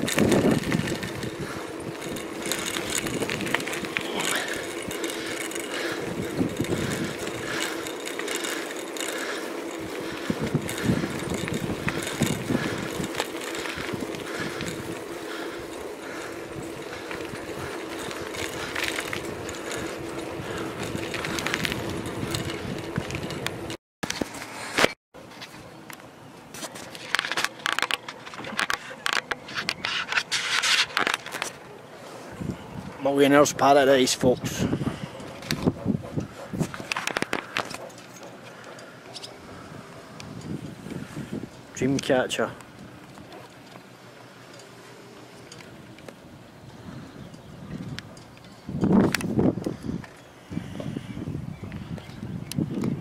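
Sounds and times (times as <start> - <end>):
bicycle tyre and drivetrain hum: 0.0 - 53.0
bike rattles and clicks: 0.0 - 53.0.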